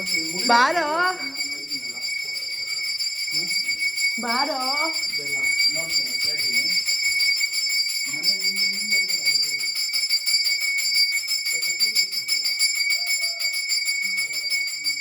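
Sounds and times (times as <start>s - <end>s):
hand bell rung rapidly: 0.0s - 15.0s.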